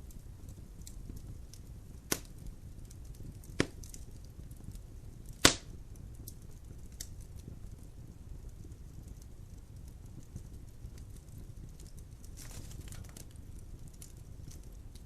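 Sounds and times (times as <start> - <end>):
low rumble of fire: 0.0 - 15.0
wood crackling pops: 0.0 - 15.0.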